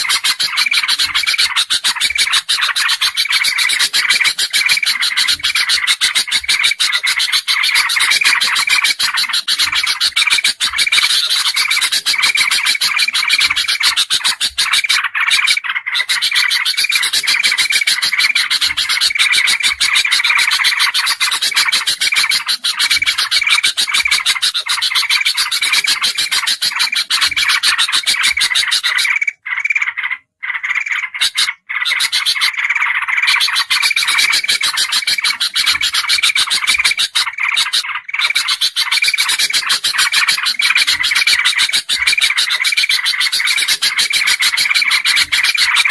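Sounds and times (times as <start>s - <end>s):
bulbuls calling: 0.0s - 45.9s.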